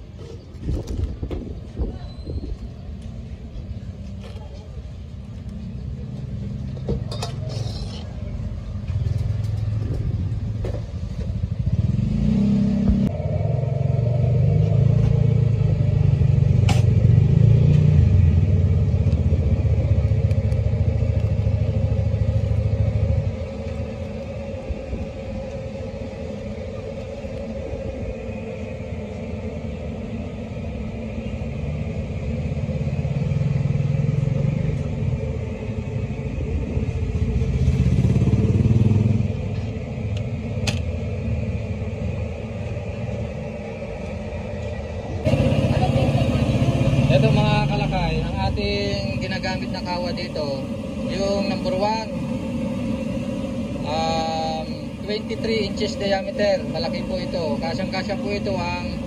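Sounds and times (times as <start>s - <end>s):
vehicle engine rumbling: 0.0s - 59.0s.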